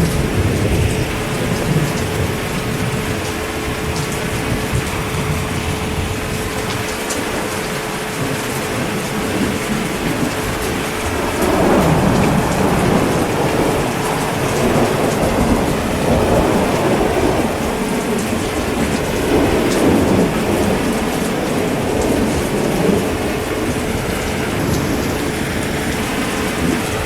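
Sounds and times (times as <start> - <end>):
heavy rain falling: 0.0 - 27.0
rolling thunder: 0.0 - 27.0.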